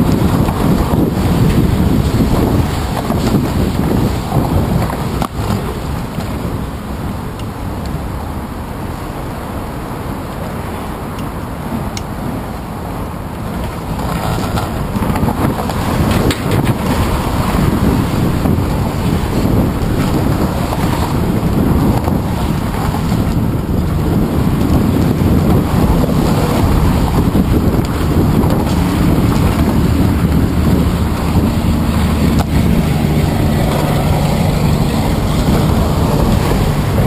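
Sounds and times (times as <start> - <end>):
traffic hum: 0.0 - 37.0
wind on microphone: 0.0 - 37.0.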